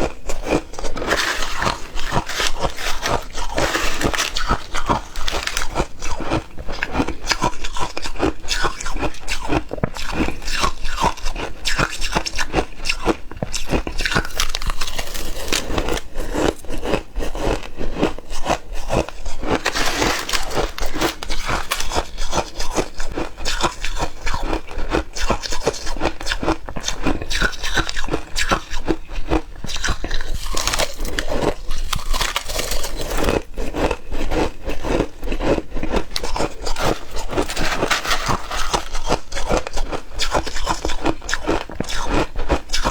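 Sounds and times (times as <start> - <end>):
ice crunching being chewed: 0.0 - 42.9.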